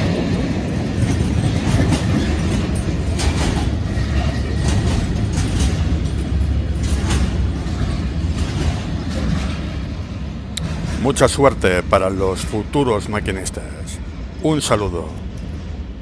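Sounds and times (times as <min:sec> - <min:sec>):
wheels clicking over track: 0:00.0 - 0:13.1
train wheels rumbling on rail: 0:00.0 - 0:16.0.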